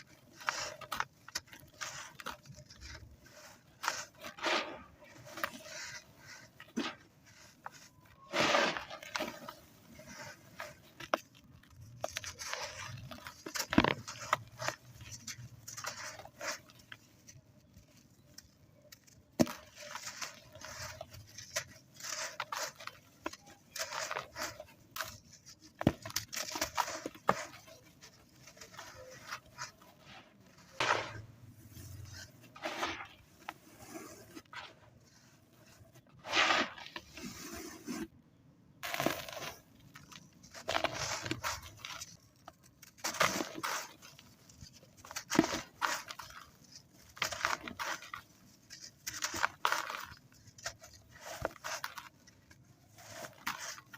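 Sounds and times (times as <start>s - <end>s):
sand clumps crunching by hand: 0.0s - 17.1s, 18.8s - 38.1s, 38.8s - 42.1s, 42.9s - 52.2s.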